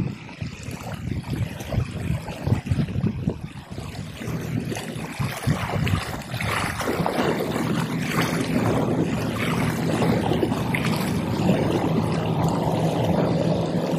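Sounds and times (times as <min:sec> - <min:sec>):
distant propeller aircraft drone: 0:00.0 - 0:13.9
wind buffeting microphone: 0:00.0 - 0:13.9.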